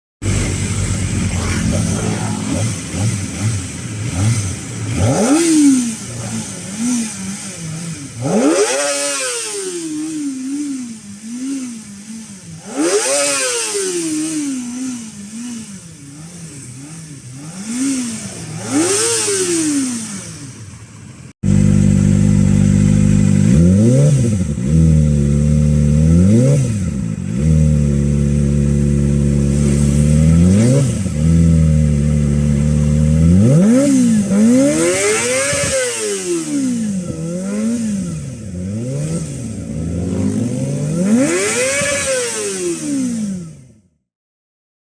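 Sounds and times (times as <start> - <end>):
motorcycle engine revving: 0.2 - 44.1.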